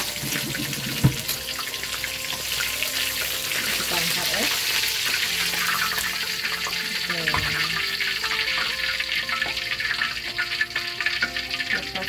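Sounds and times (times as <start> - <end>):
duck sizzling in hot oil: 0.0 - 12.0
oil bubbling: 0.0 - 12.0.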